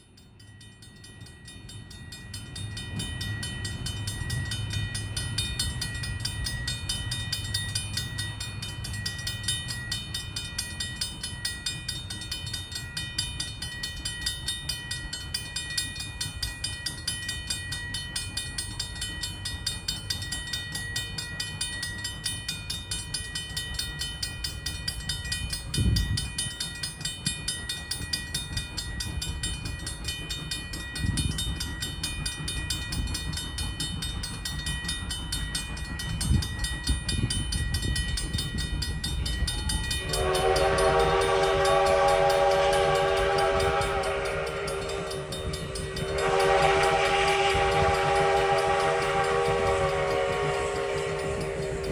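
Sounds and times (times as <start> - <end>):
crossing bell ringing: 0.0 - 51.9
train rumbling: 0.0 - 51.9.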